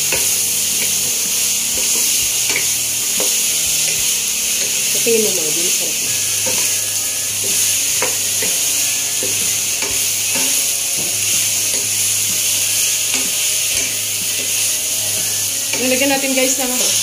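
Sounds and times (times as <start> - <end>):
food sizzling in a wok: 0.0 - 17.0
wooden spatula scraping wok: 0.0 - 17.0.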